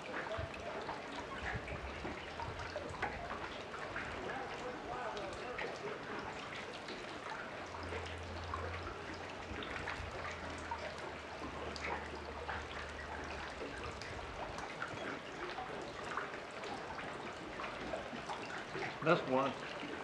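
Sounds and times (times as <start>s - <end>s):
lake water lapping: 0.0s - 20.0s.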